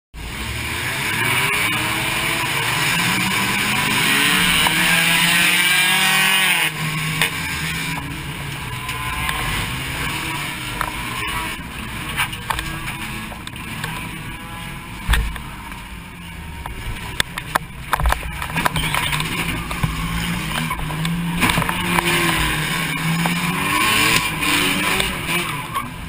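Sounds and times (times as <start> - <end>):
race car engine revving: 0.2 - 26.0.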